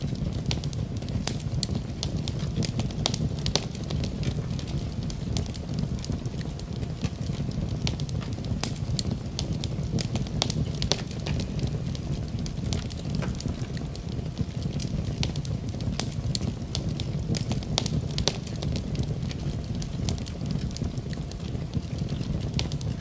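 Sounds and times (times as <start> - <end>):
low rush of fire: 0.0 - 23.0
wood fire crackling and popping: 0.0 - 23.0.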